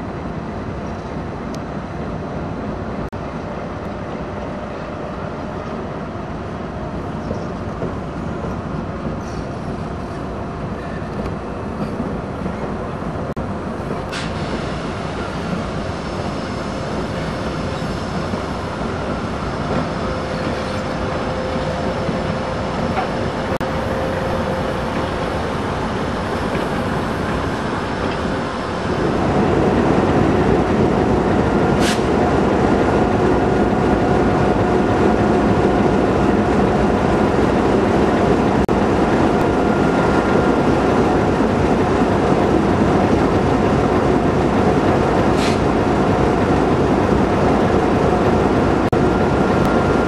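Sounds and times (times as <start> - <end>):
diesel locomotive passing: 0.0 - 50.0.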